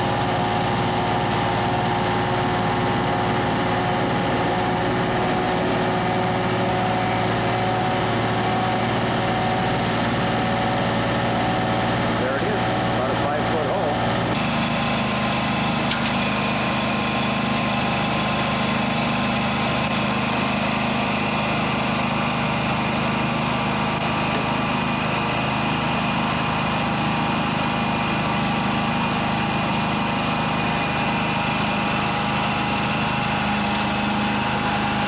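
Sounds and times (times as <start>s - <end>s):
engine and blower hum: 0.0s - 35.0s.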